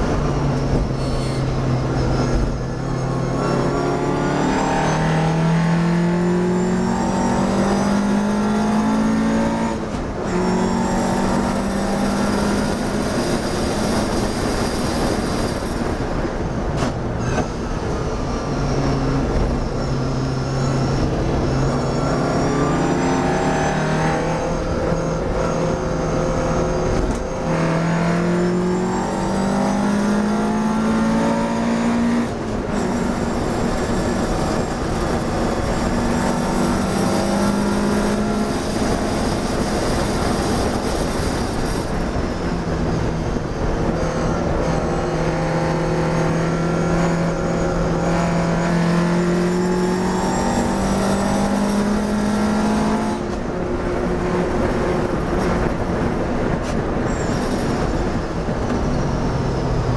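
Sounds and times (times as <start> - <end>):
race car engine under load: 0.0 - 59.9
road and wind rumble: 0.0 - 59.9.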